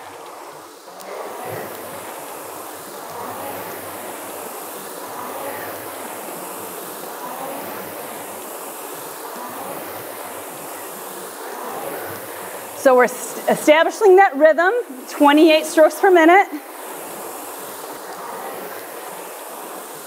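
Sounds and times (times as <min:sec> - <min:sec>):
rowing machine fan flywheels whirring: 0:00.0 - 0:20.0.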